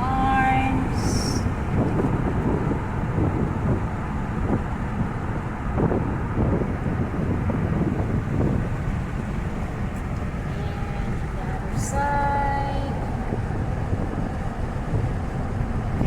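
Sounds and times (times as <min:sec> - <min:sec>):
car road and engine rumble: 0:00.0 - 0:16.0
wind gusting over microphone: 0:00.0 - 0:16.0.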